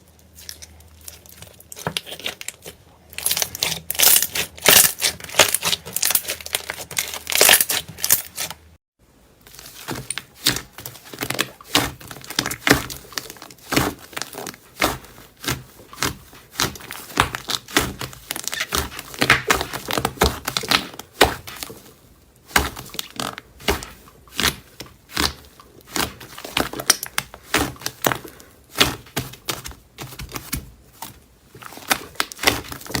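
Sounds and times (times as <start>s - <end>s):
slime squelching and popping: 0.2s - 8.7s, 9.5s - 33.0s.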